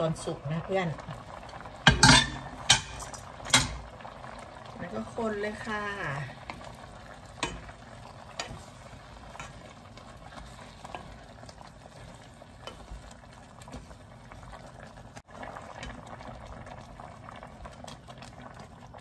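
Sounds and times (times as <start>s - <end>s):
pot bubbling: 0.0s - 19.0s.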